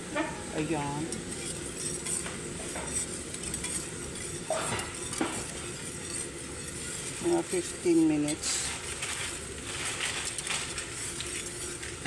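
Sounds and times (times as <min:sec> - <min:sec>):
whisk scraping metal pot: 0:00.1 - 0:12.0.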